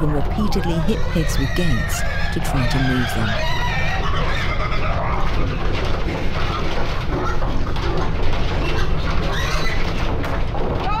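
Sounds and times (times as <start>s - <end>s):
pigs grunting and squealing: 0.0s - 11.0s.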